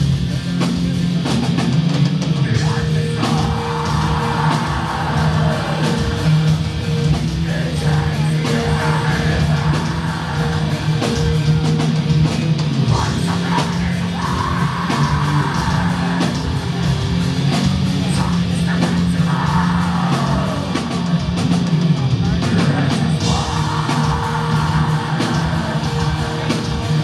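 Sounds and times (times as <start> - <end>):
metal band playing live: 0.0 - 27.0
harsh shouted vocal: 2.4 - 11.9, 12.8 - 27.0.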